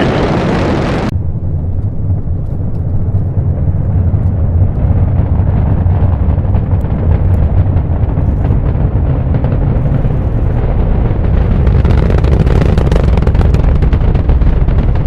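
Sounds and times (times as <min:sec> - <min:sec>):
rocket engines deep rumble: 0:00.0 - 0:15.0.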